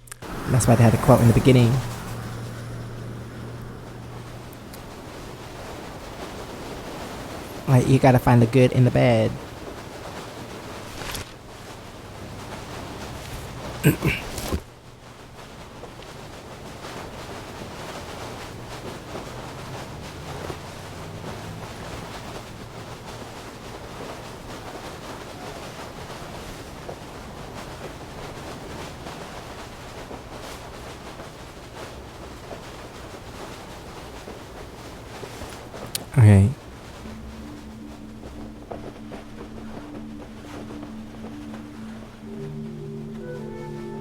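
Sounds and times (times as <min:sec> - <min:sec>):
rain hiss: 0:00.0 - 0:44.0.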